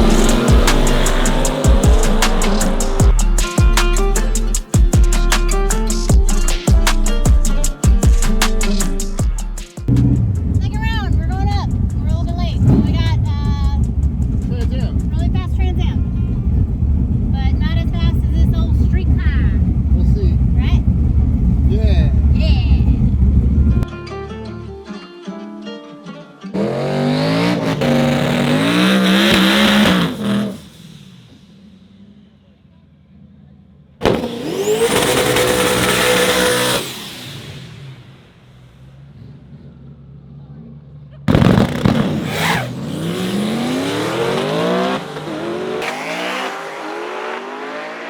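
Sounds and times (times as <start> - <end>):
drag car engine accelerating: 0.0 - 6.5, 9.9 - 23.9, 26.6 - 48.0.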